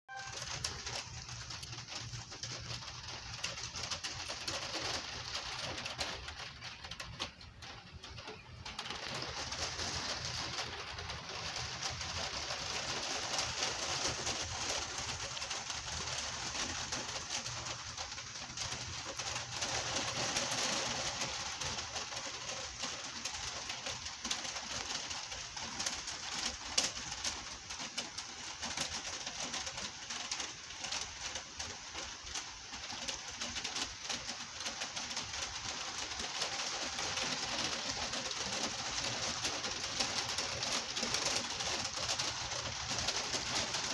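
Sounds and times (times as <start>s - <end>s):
gentle rain falling: 0.1s - 43.9s.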